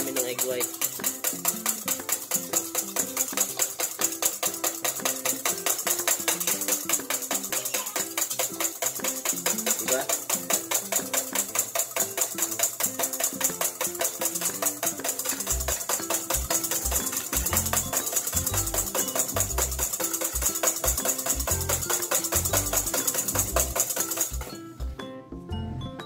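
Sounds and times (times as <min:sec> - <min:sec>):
whisk rattling in metal bowl: 0:00.0 - 0:24.6
background music: 0:00.0 - 0:26.0.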